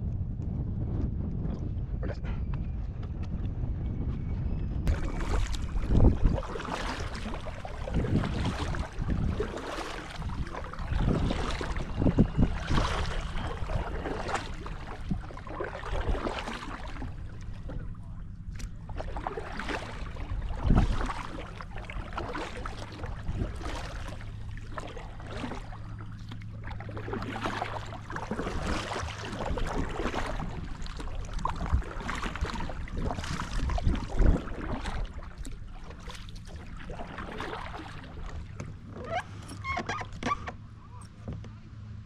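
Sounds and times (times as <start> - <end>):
low rumble: 0.0 - 39.5
water sloshing against hull: 0.3 - 42.0.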